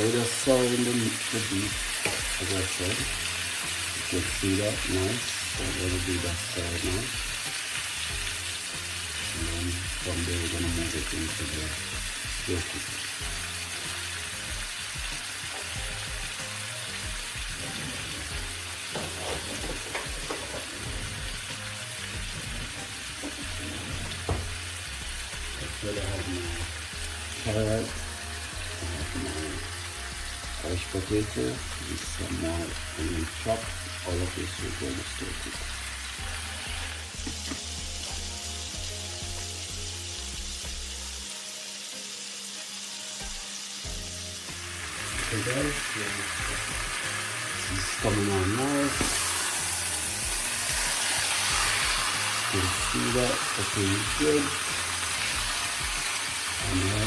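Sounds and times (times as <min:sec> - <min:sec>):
meat sizzling in a pot: 0:00.0 - 0:57.0.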